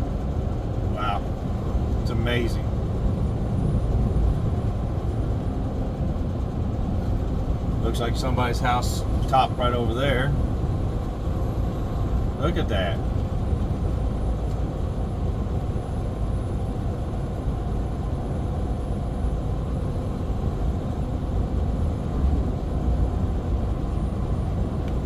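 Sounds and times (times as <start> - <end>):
road noise: 0.0 - 25.0
truck engine drone: 0.0 - 25.0.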